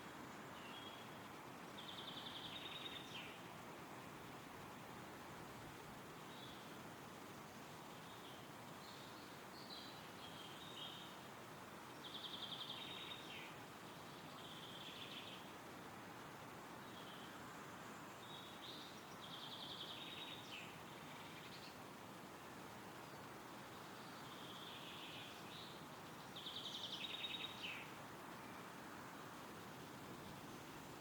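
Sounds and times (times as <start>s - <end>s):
wind rustling through trees: 0.0s - 31.0s.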